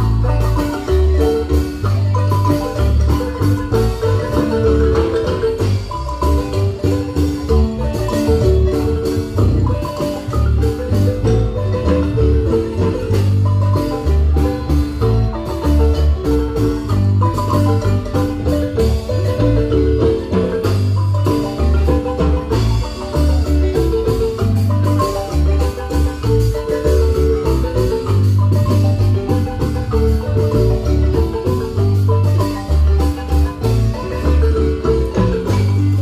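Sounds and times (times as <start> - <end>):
marimba ensemble playing: 0.0 - 36.0.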